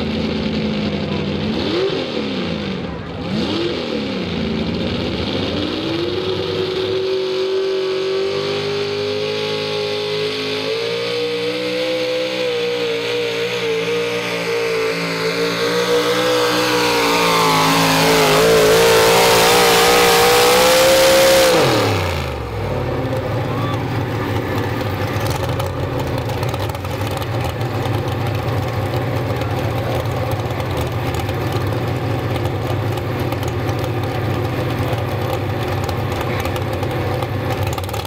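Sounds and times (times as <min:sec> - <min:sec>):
truck engine at full throttle: 0:00.0 - 0:38.0.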